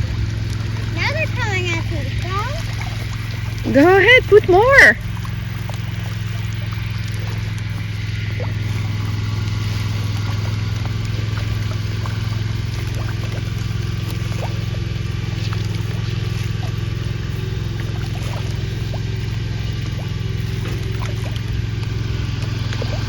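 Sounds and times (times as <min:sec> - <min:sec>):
engine running with low hum: 0:00.0 - 0:23.0.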